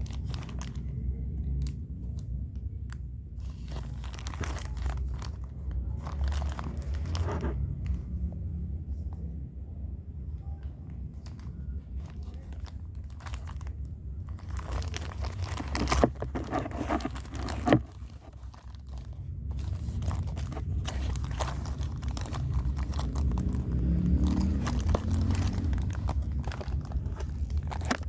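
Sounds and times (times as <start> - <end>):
packaging crinkling and tearing: 0.0 - 1.6, 3.4 - 7.7, 11.2 - 28.0
low rumble from handling: 0.0 - 28.0.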